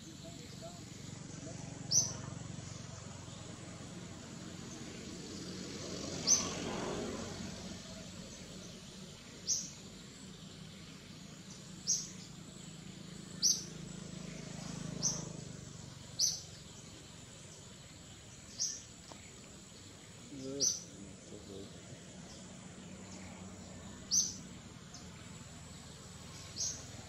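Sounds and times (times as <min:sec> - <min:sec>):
bird chirping: 0:00.0 - 0:05.5, 0:06.1 - 0:06.7, 0:07.5 - 0:27.0
low outdoor background noise: 0:00.0 - 0:27.0.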